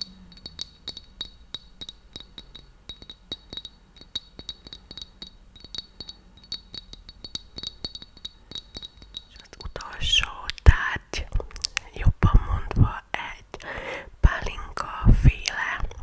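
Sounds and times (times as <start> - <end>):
fingers tapping small cup: 0.0 - 13.0.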